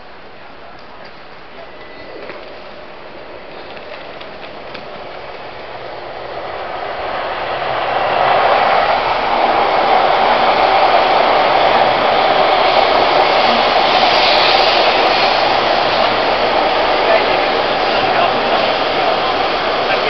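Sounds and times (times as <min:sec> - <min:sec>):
electric train passing close: 0:00.0 - 0:20.0.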